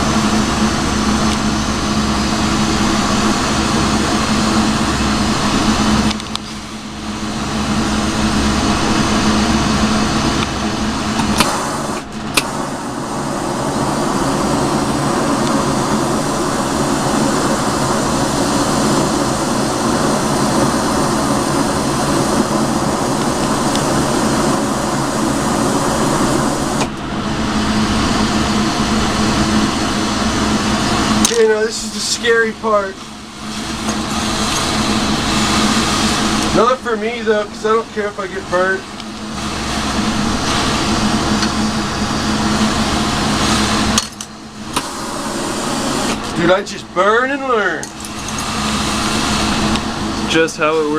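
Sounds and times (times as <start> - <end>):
torch flame roaring: 0.0 - 50.9.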